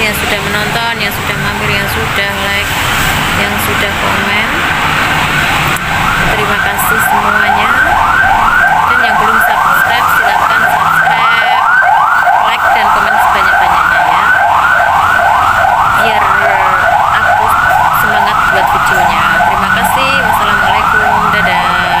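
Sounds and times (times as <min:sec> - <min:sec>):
electronic siren yelping: 0:00.0 - 0:22.0.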